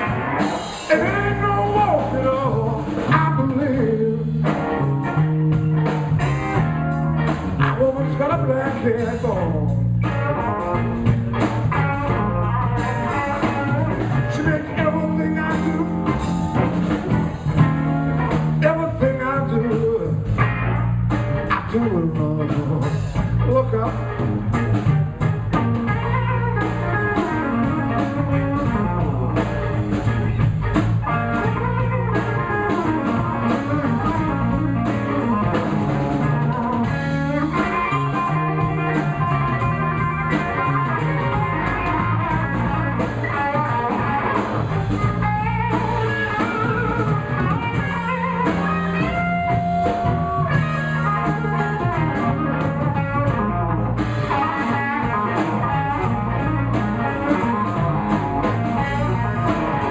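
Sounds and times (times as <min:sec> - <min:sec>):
electric guitar solo: 0:00.0 - 0:21.7, 0:23.2 - 0:59.9
bass guitar: 0:00.0 - 0:59.9
drum kit: 0:00.0 - 0:59.9.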